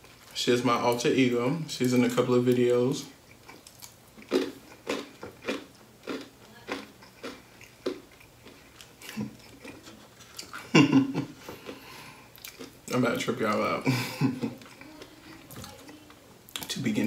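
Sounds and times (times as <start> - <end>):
person chewing food: 1.9 - 16.7.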